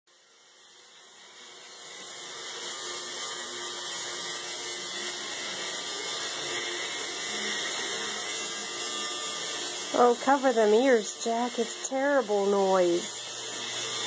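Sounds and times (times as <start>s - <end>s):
electric shaver buzzing: 0.1s - 14.0s.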